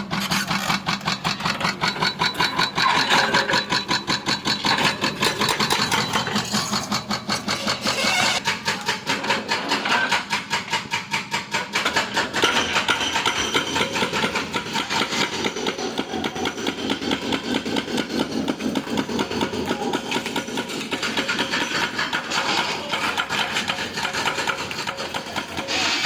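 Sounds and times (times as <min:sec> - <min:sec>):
excavator engine clattering: 0:00.0 - 0:26.0.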